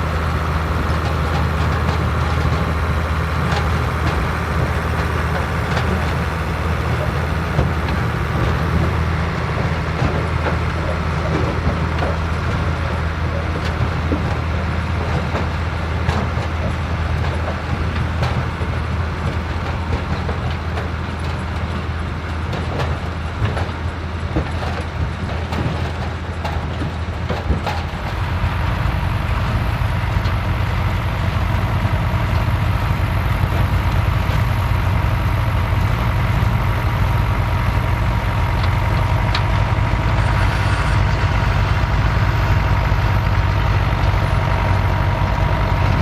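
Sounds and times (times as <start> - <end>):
machinery knocks and rattles: 0.0 - 46.0
tractor engine running: 0.0 - 46.0.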